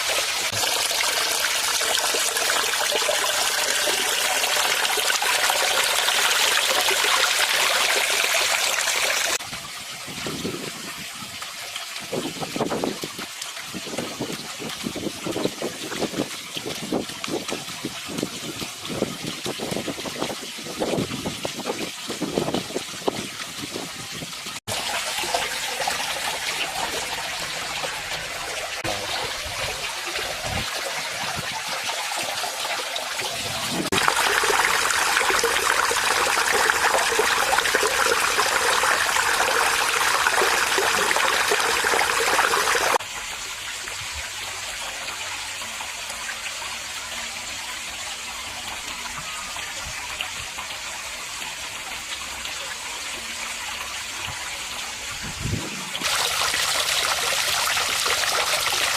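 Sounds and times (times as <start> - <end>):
waterfall splashing into a pond: 0.0 - 58.9.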